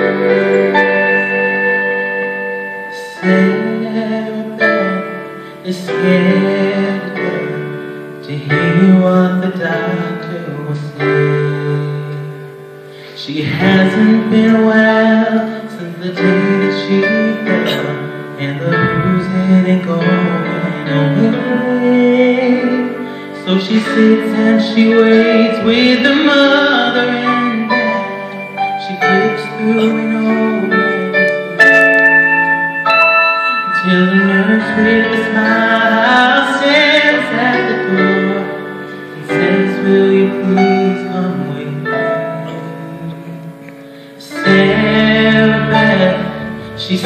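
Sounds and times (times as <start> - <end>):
man singing slow song: 0.0 - 32.3, 33.4 - 47.0
piano backing track: 0.0 - 47.0.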